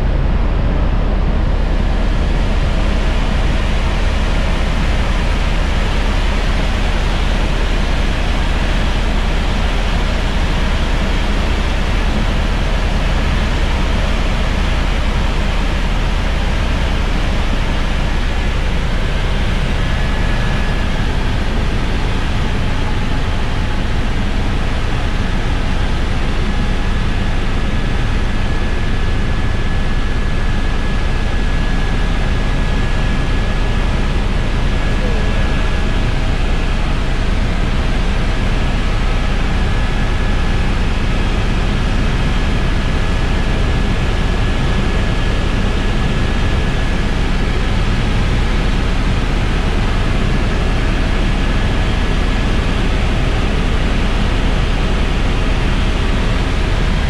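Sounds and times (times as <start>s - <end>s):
faint steady whine tones: 0.0s - 57.0s
helicopter rotor and turbine drone: 0.0s - 57.0s.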